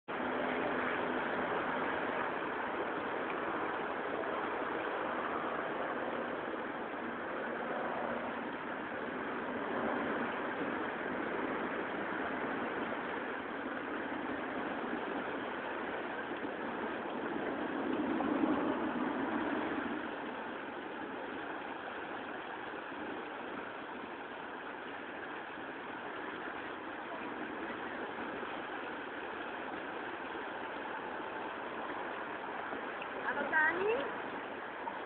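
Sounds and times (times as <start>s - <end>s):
floodwater rushing around railing: 0.1s - 35.0s.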